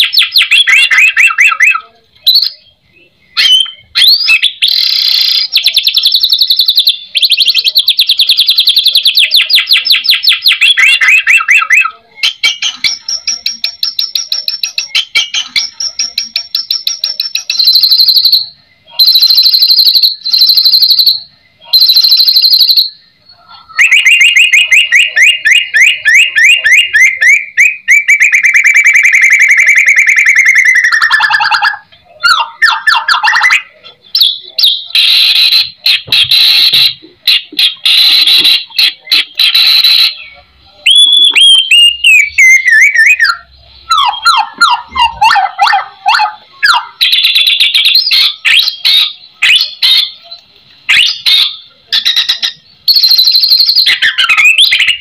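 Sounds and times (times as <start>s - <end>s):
bird singing rapid trills: 0.0s - 55.0s.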